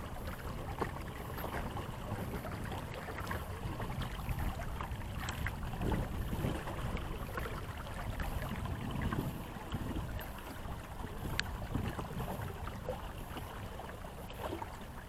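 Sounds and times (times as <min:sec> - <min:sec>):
water lapping against boat hull: 0:00.0 - 0:15.0
wind rumble on microphone: 0:00.0 - 0:15.0.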